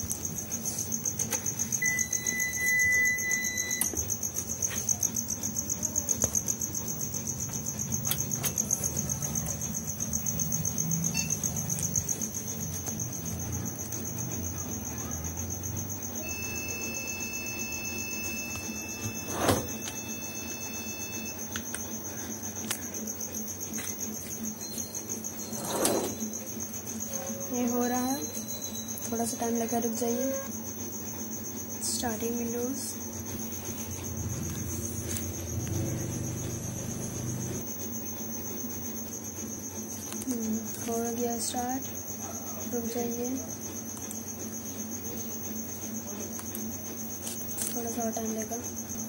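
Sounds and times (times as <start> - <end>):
crickets trilling: 0.0 - 49.0.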